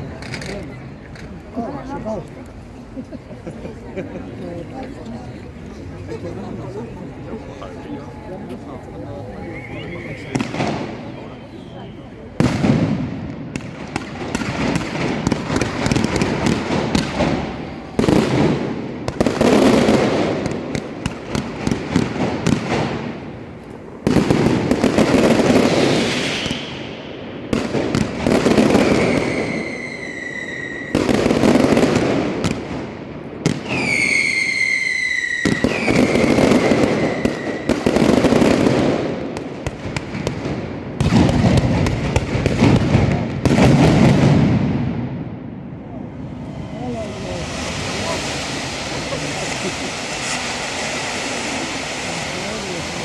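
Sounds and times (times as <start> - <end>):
fireworks crackling: 0.0 - 7.5, 8.5 - 45.0, 45.6 - 53.0
whistling firework: 9.2 - 23.3, 24.0 - 45.2, 45.8 - 53.0.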